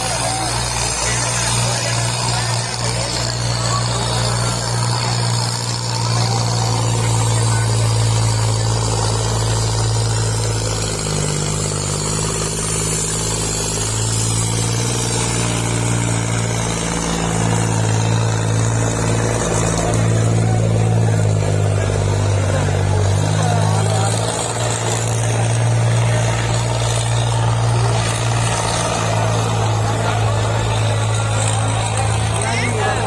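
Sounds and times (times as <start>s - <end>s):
tractor diesel engine droning: 0.0s - 33.0s.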